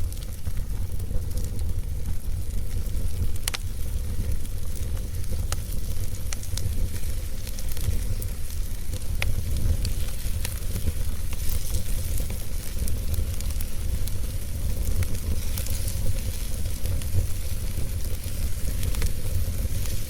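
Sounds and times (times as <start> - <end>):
fire crackling: 0.0 - 20.0.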